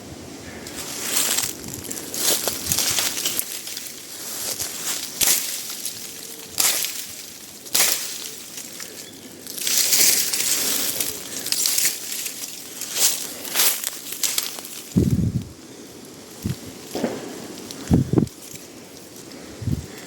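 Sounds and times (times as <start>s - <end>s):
footsteps crunching dry leaves: 0.4s - 20.0s.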